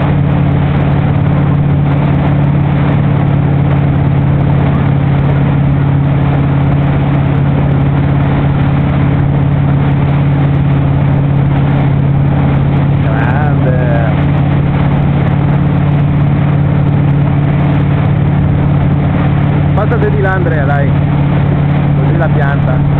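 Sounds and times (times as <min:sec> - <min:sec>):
motorboat engine humming: 0:00.0 - 0:22.9
water rushing from boat wake: 0:00.0 - 0:22.9.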